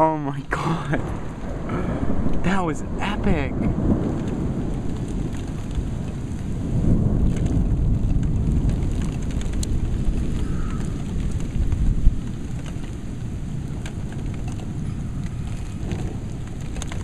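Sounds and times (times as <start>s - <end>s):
heavy rain pouring: 0.0s - 17.0s
thunder rumbling: 0.0s - 17.0s.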